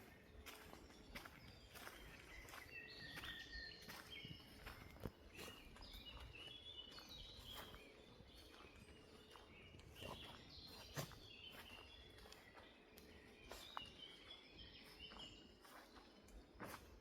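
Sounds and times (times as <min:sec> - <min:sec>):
birds chirping: 0:00.0 - 0:17.0
footsteps on forest floor: 0:00.0 - 0:17.0.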